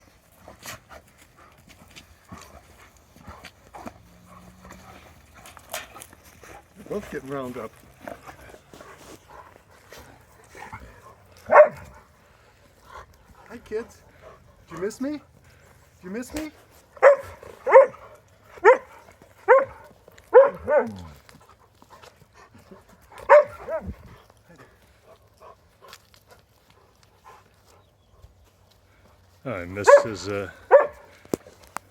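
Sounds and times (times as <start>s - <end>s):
dog paws clicking: 0.0s - 31.9s.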